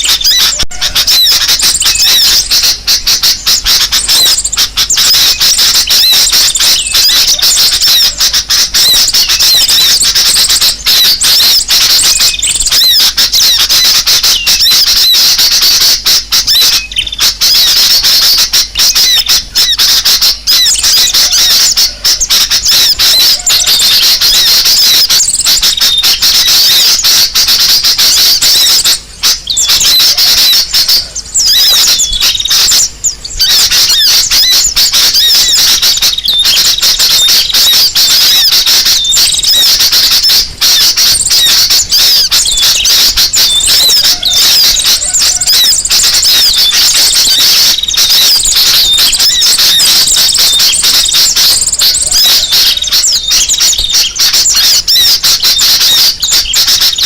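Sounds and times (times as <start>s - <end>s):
many small birds chirping: 0.0s - 57.0s.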